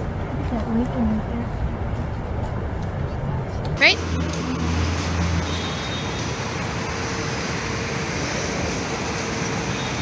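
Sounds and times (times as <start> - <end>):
low engine drone: 0.0 - 10.0
passing vehicles: 0.0 - 10.0.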